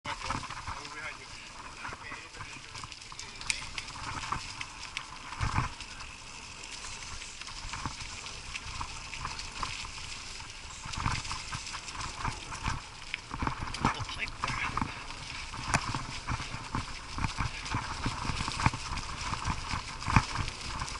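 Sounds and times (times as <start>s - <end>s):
mountain bike rattling over dirt: 0.0s - 20.9s.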